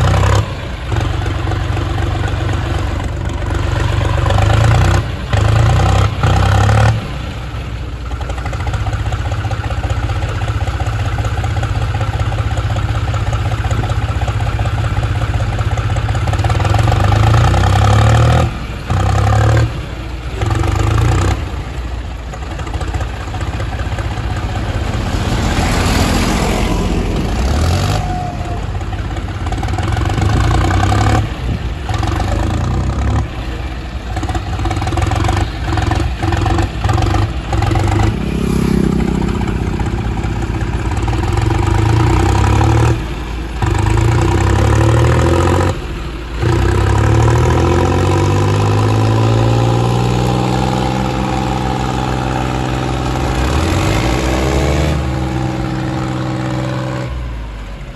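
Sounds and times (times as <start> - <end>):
tractor diesel engines under load: 0.0 - 57.9.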